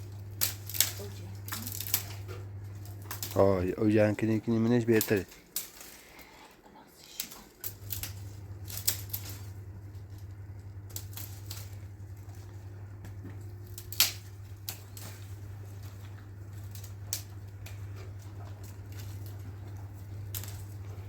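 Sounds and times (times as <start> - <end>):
washing machine motor humming: 0.0 - 21.0.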